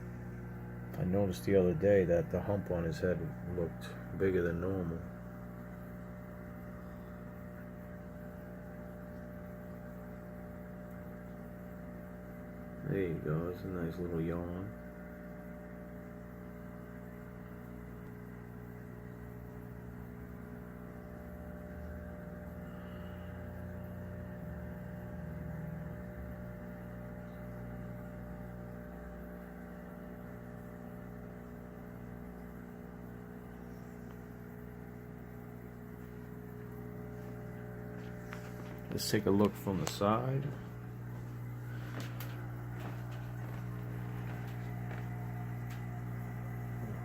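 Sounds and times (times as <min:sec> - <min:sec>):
aquarium equipment electrical hum: 0:00.0 - 0:47.0.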